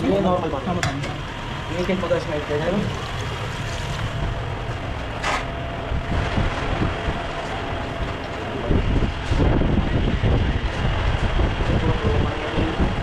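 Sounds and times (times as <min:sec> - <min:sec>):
steady roar with low rumbling: 0:00.0 - 0:13.0.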